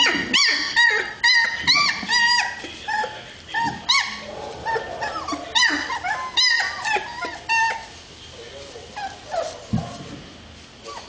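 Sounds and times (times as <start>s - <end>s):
puppies whimpering and yelping: 0.0s - 8.0s, 8.8s - 10.0s, 10.8s - 11.0s.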